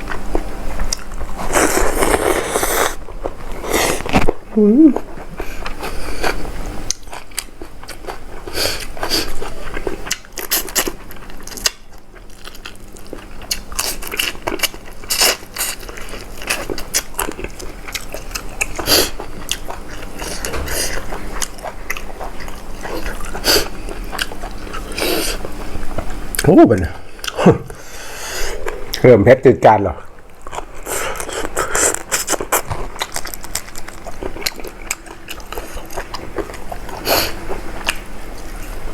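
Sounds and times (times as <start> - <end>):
person chewing and crunching: 0.0 - 27.8, 30.1 - 38.8.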